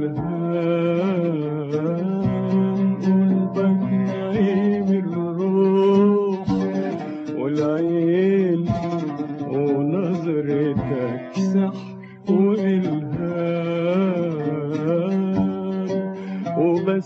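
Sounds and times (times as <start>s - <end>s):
man singing a wavering melody: 0.0s - 17.0s
plucked oud: 0.0s - 17.0s.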